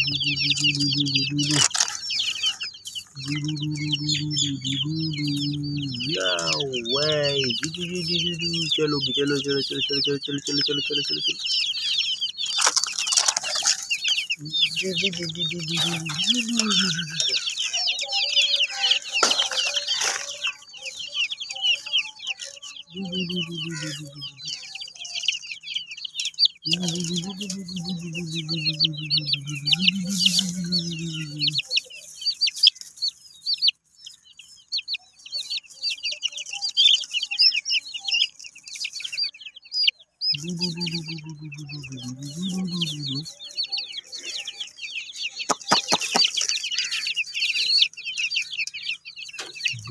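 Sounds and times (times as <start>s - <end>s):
baby chicks peeping: 0.0s - 49.9s.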